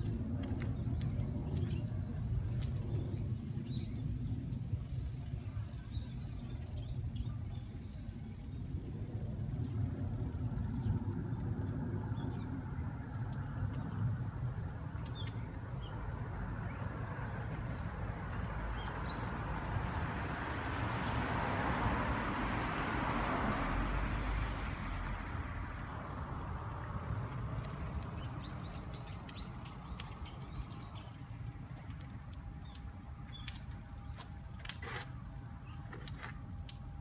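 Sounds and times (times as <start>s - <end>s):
bicycle ride rumble: 0.0s - 37.0s.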